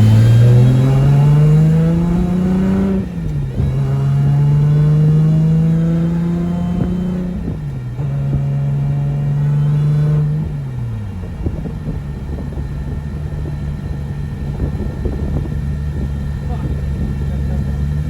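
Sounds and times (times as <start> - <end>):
car engine running: 0.0 - 18.0
exhaust crackles: 0.0 - 18.0.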